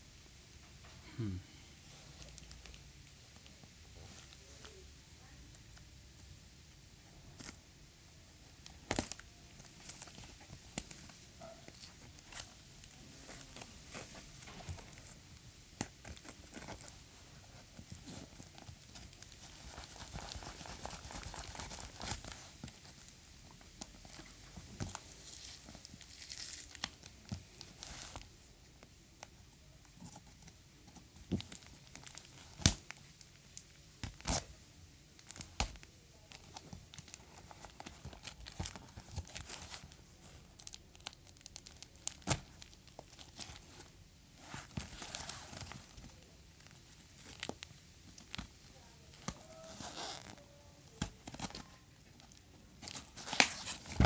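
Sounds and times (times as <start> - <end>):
plastic and cardboard crinkling: 8.4 - 34.6, 35.2 - 54.0.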